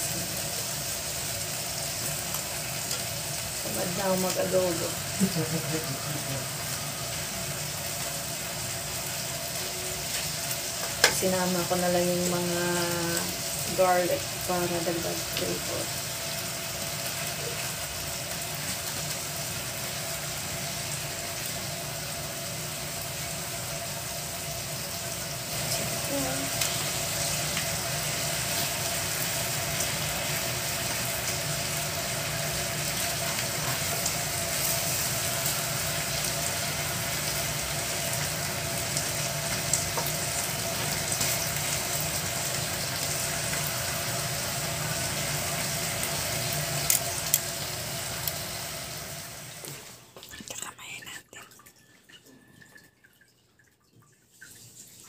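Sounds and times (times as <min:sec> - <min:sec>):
chicken sizzling in oil: 0:00.0 - 0:50.1.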